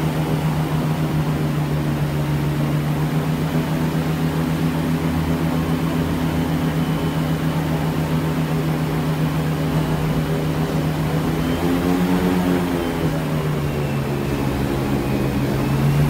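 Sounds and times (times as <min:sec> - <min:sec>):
airboat engine and propeller: 0:00.0 - 0:16.0.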